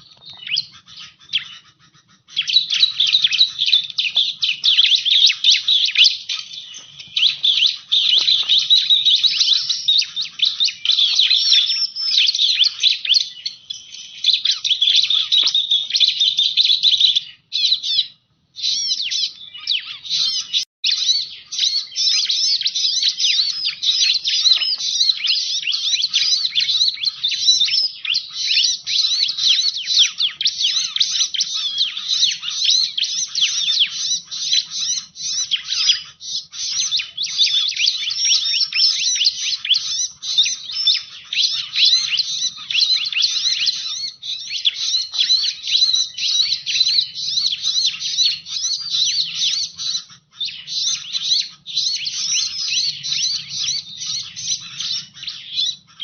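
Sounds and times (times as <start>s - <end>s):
high-pitched bird chirping: 0.0s - 56.0s.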